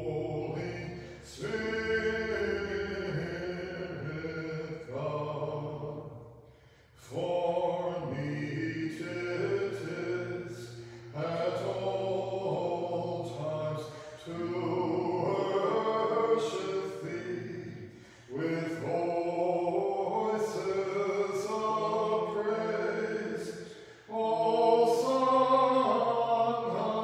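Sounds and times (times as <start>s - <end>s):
voices singing a cappella chant: 0.0s - 27.0s.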